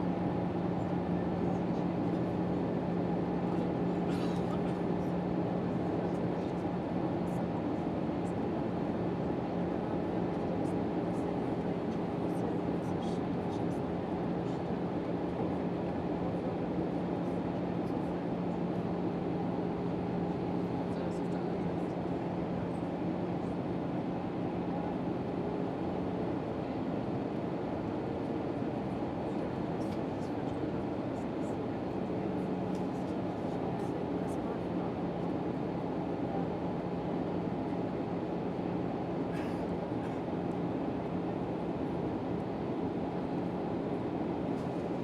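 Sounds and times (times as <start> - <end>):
airplane cabin drone: 0.0 - 6.9, 7.6 - 45.0.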